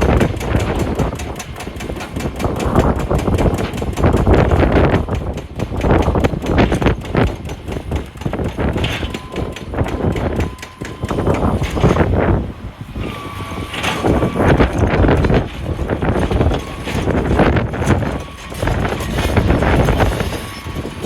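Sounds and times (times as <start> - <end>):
knocks and clatter on rock: 0.0 - 12.1, 13.8 - 21.0
wheel loader engine rumble: 0.0 - 21.0.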